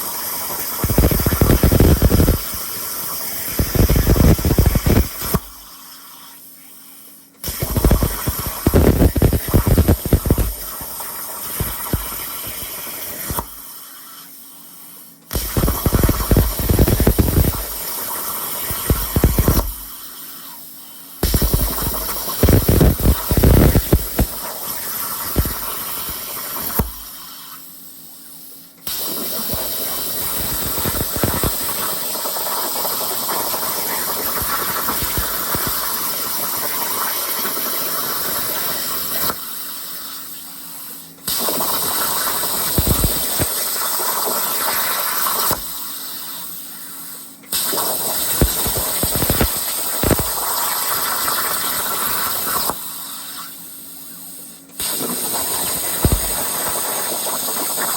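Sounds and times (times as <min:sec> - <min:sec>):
plasma cutter arc hissing: 0:00.0 - 0:57.9.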